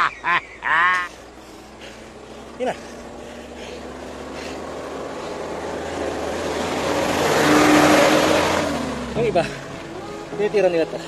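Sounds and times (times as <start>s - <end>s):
vehicle passing by: 1.0s - 11.0s.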